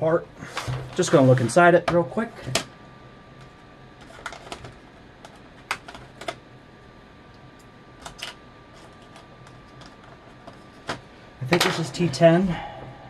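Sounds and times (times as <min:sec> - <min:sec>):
background fan hum: 0:00.0 - 0:13.0.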